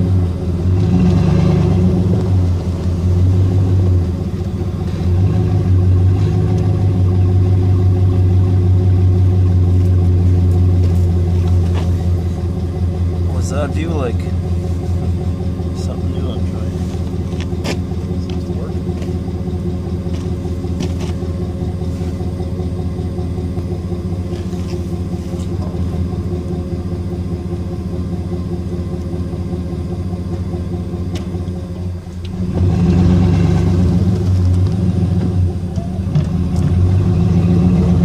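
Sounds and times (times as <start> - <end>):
snowplow engine running: 0.0 - 38.0.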